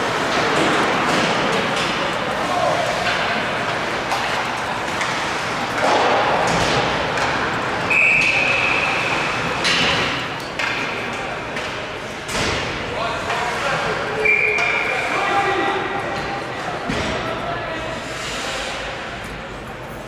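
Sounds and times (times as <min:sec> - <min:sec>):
spectators chattering in echoing hall: 0:00.0 - 0:20.0.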